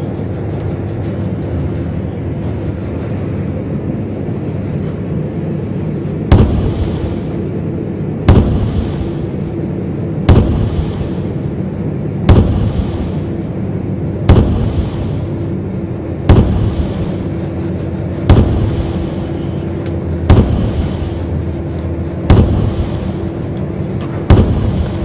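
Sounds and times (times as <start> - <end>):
railcar engine drone: 0.0 - 25.0.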